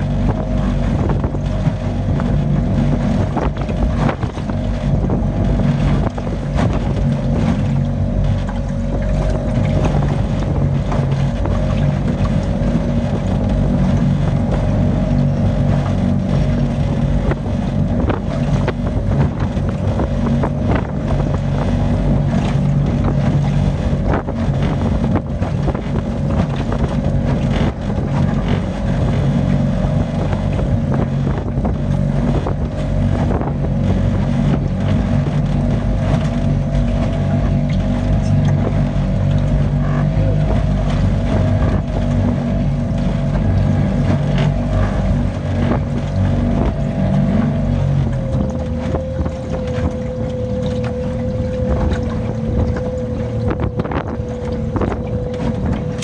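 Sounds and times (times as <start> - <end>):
engine drone: 0.0 - 56.0
wind buffeting microphone: 0.0 - 56.0.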